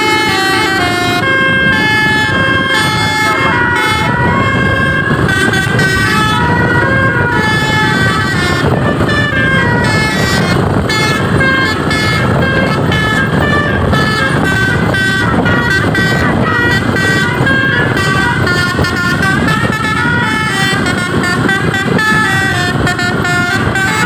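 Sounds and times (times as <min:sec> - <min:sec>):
bus air horn tune: 0:00.0 - 0:24.0
low rumble: 0:00.0 - 0:24.0.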